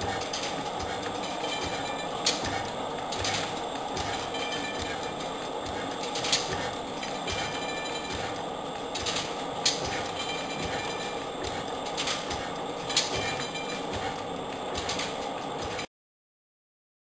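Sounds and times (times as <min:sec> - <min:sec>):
gas engine clattering: 0:00.0 - 0:15.9.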